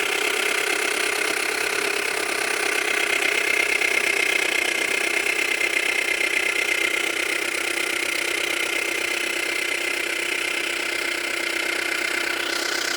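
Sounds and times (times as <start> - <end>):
car engine running: 0.0 - 12.9
rapid engine knock: 0.0 - 12.9.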